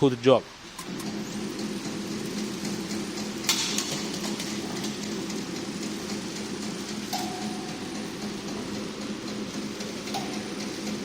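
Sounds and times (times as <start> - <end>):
packing machine humming: 0.6 - 11.0
sharp machine clack: 0.8 - 11.0.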